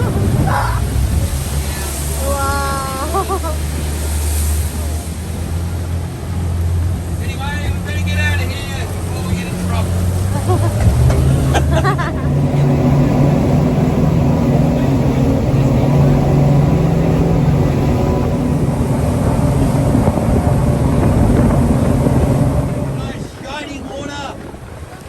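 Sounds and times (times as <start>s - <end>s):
boat engines droning: 0.0s - 25.0s
rushing wind: 0.0s - 25.0s
water noise: 0.0s - 25.0s.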